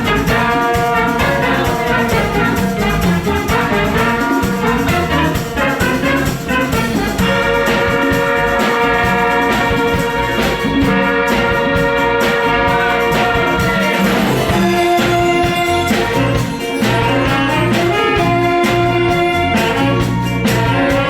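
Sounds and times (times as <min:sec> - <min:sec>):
brass-like chords: 0:00.0 - 0:21.0
drums: 0:00.0 - 0:21.0.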